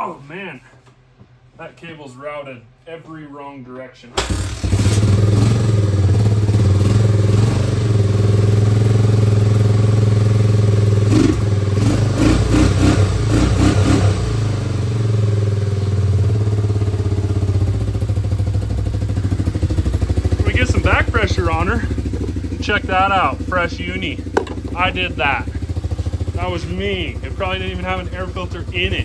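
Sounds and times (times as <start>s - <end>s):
single-cylinder engine running: 4.2s - 29.0s.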